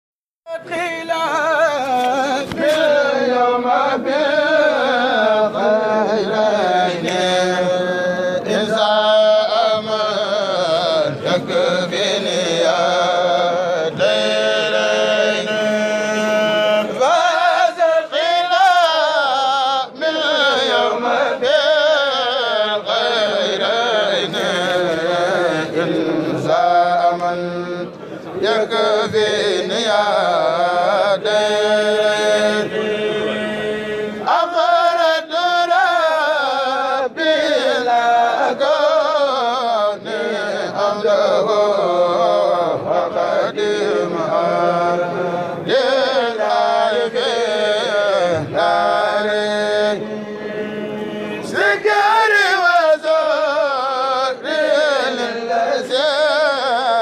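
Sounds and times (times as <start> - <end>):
group chanting devotional poem: 0.5 - 57.0.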